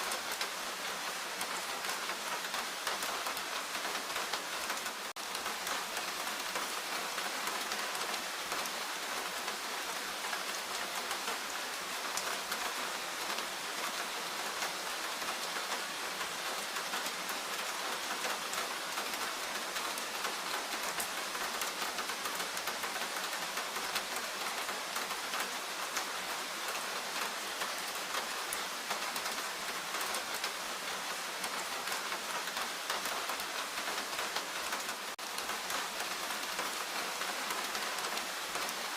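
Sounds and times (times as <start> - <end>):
rain falling in forest: 0.0 - 38.9.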